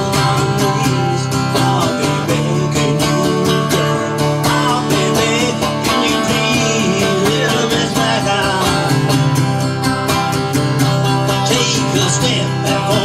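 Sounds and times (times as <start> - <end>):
country band playing: 0.0 - 13.0
strummed acoustic guitar: 0.0 - 13.0.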